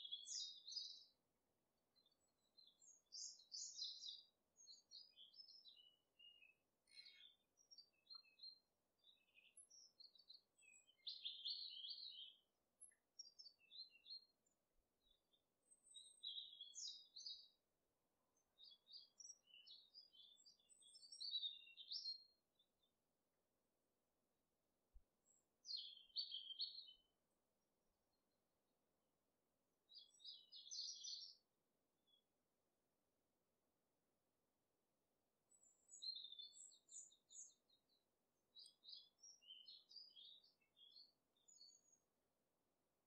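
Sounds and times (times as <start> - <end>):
small birds chirping: 0.0 - 23.0, 25.0 - 32.3, 35.4 - 42.7.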